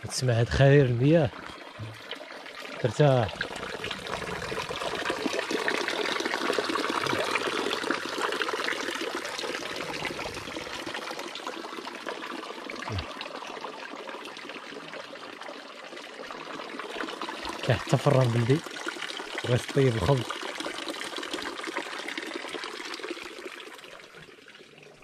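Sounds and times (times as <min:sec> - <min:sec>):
water trickling from a fountain: 0:00.0 - 0:25.0.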